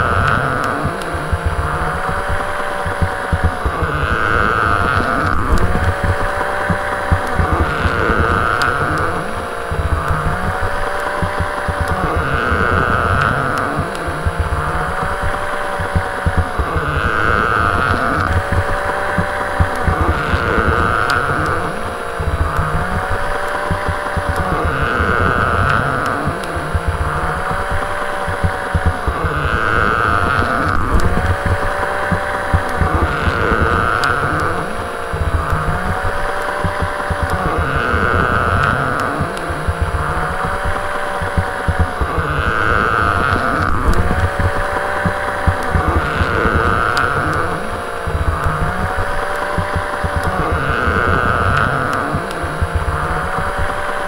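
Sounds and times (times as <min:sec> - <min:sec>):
electric motor and gears whirring: 0:00.0 - 0:54.0
plastic body creaking and clicking: 0:00.0 - 0:54.0.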